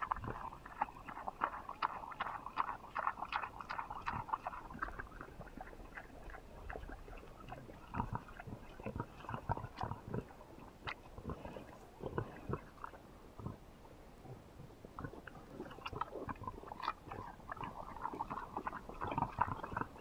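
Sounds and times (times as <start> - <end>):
pig chewing and smacking: 0.0 - 13.6, 14.3 - 20.0.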